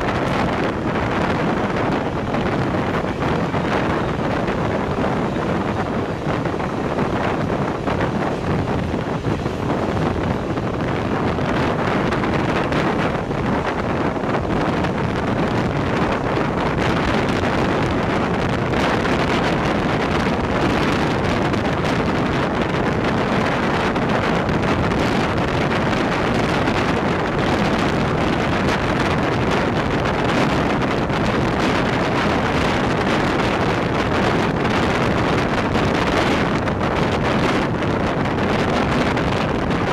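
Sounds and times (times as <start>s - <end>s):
train rumbling: 0.0s - 39.9s
wind buffeting microphone: 0.0s - 39.9s.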